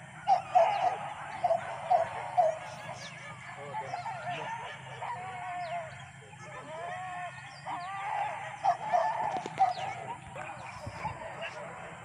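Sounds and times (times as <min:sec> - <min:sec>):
hunting dogs yelping and baying: 0:00.0 - 0:12.0.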